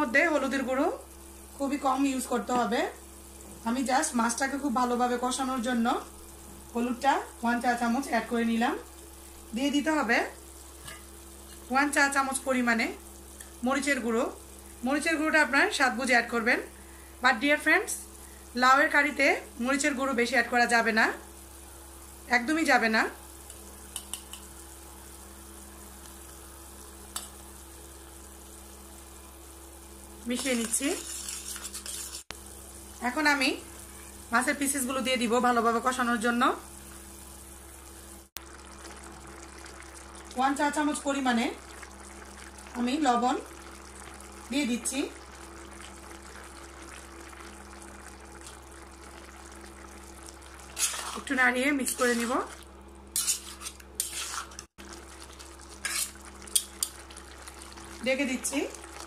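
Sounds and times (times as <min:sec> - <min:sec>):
faint electrical hum: 0:00.0 - 0:59.0
onion base simmering in a wok: 0:00.0 - 0:59.0.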